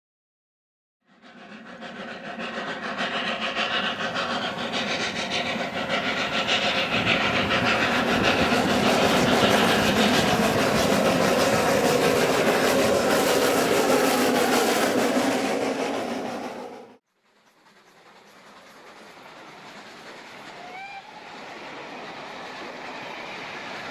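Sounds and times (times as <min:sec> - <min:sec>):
train engine tone: 0:01.2 - 0:23.9
train mechanical clattering: 0:01.2 - 0:23.9.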